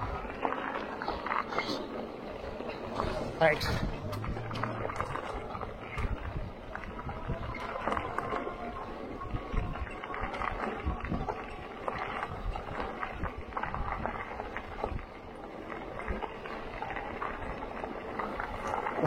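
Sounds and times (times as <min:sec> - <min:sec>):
bike clicks and rattles: 0:00.0 - 0:19.0
bike tyres crunching on rocks: 0:00.0 - 0:19.0
wind rumble on microphone: 0:00.0 - 0:19.0.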